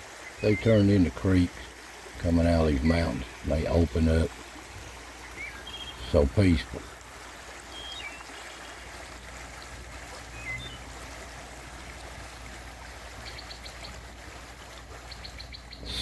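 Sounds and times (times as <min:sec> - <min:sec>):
creek running: 0:00.0 - 0:16.0.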